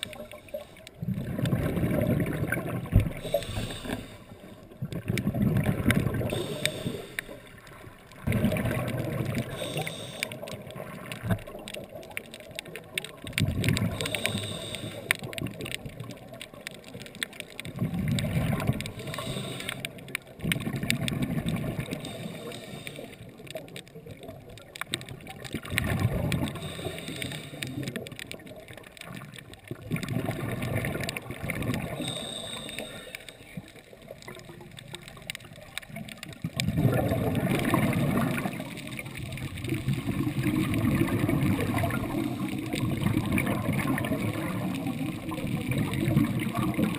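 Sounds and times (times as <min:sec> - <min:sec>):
underwater bubbles gurgling: 0:00.0 - 0:46.9.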